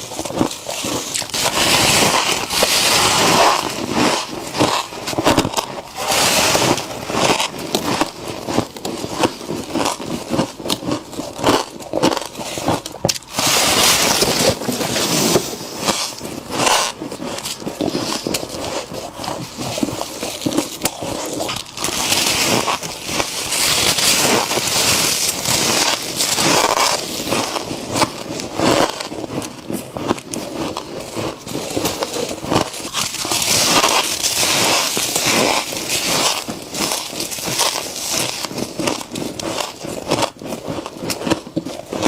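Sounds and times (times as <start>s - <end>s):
frost crunching while eaten: 0.0s - 42.0s.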